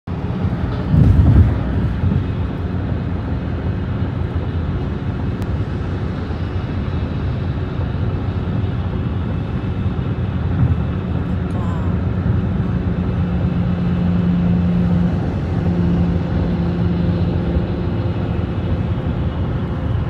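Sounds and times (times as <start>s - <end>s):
car interior road and engine noise: 0.1s - 20.0s.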